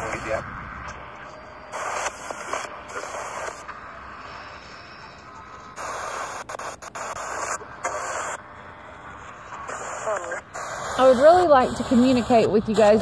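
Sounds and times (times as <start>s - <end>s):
radio static: 0.0s - 13.0s
snatches of broadcast sound: 0.0s - 13.0s.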